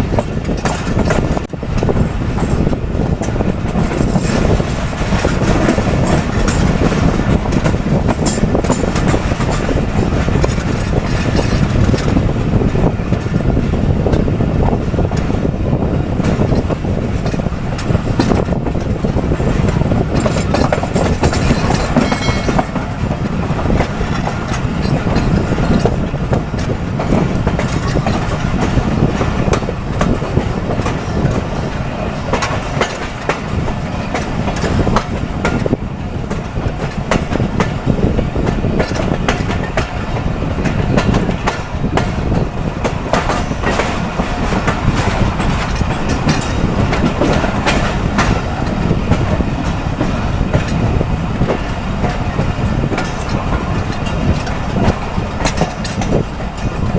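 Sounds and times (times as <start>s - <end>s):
train wheels clickety-clack: 0.0s - 56.9s.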